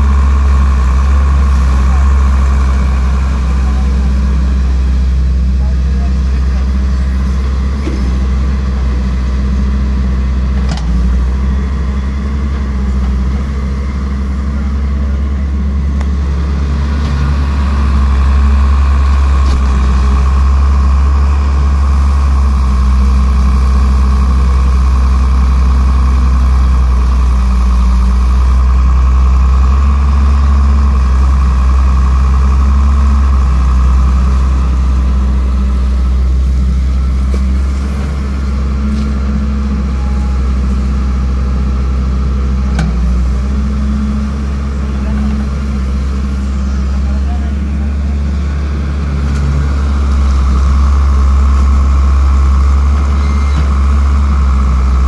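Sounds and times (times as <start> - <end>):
steady high whine: 0.0 - 30.0, 33.2 - 55.0
excavator diesel engine droning: 0.0 - 55.0.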